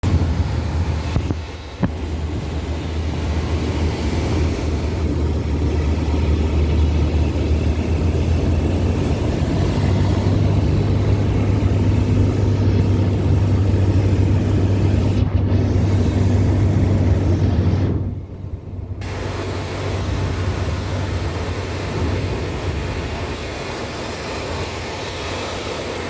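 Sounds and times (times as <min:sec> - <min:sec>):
airflow noise: 0:00.0 - 0:26.0
airplane engine droning: 0:00.0 - 0:26.0.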